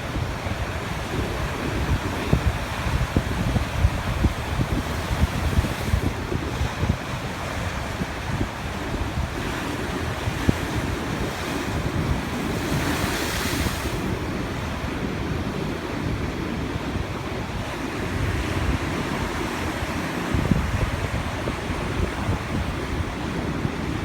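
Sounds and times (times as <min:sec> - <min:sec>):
sea waves breaking on shore: 0:00.0 - 0:24.0
wind buffeting microphone: 0:00.0 - 0:24.0.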